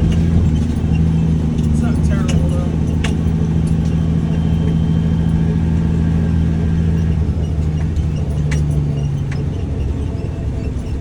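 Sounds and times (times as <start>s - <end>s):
diesel truck engine running: 0.0s - 11.0s
truck rattling over bumps: 0.0s - 11.0s.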